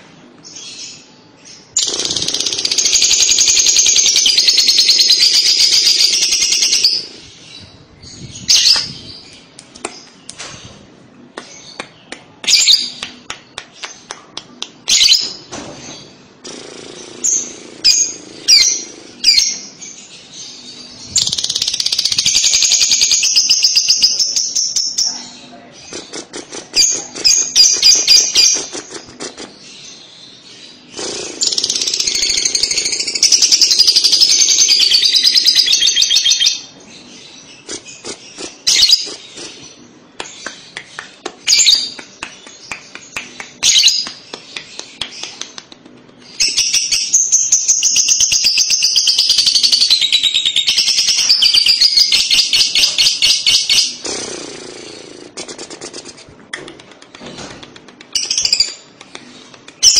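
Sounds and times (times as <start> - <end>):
bird high chattering song: 0.5 - 10.8, 14.8 - 57.5, 58.1 - 59.9.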